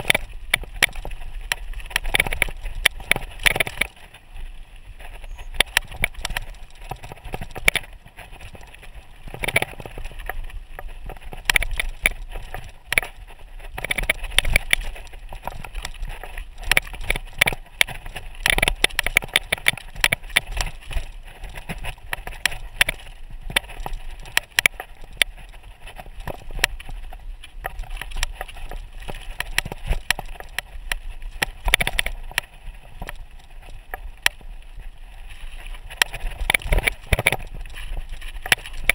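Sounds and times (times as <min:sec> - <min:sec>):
bike clattering and rattling: 0:00.0 - 0:38.9
tyres crunching over stones: 0:00.0 - 0:38.9.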